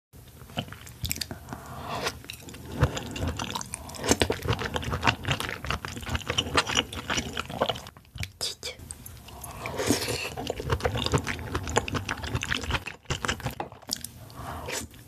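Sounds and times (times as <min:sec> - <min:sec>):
person chewing oyster: 0:00.4 - 0:15.0.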